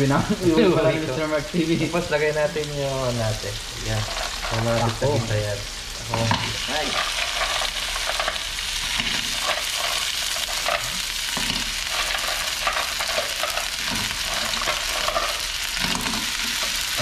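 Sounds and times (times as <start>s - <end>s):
mussels sizzling in a pan: 0.0s - 17.0s.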